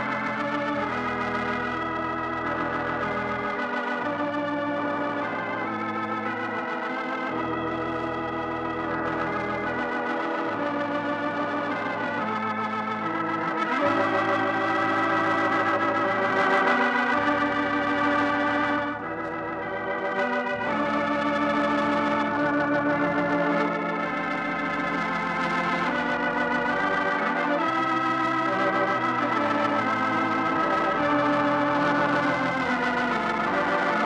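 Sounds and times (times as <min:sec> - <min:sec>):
organ chords: 0:00.0 - 0:34.0.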